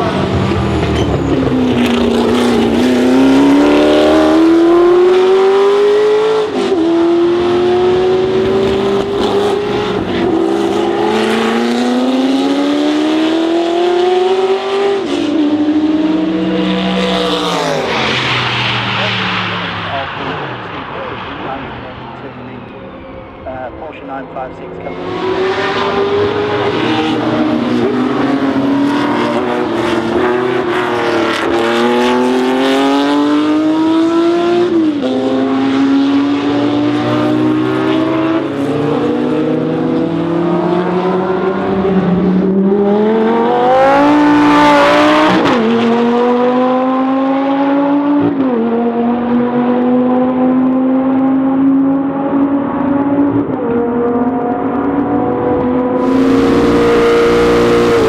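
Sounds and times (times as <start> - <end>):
racing car engine upshifting: 0.0 - 58.0.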